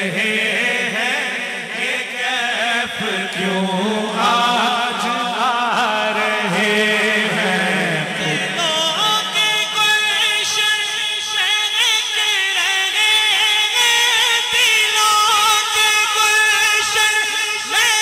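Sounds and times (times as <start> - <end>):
man singing devotional song: 0.0 - 18.0.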